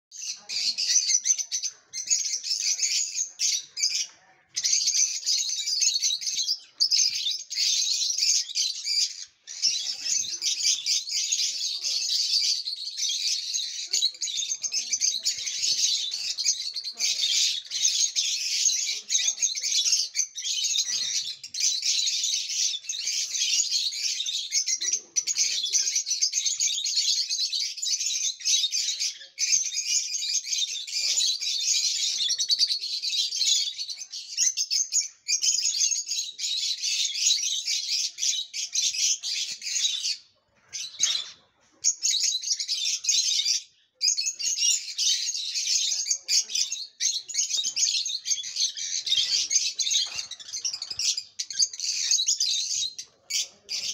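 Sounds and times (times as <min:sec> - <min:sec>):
lovebirds chirping: 0:00.1 - 0:53.9.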